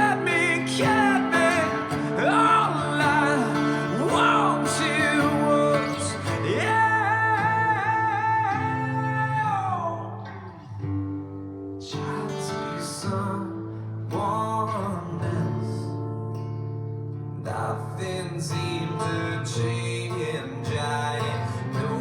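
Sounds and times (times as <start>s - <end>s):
song with singing over guitar: 0.0s - 22.0s.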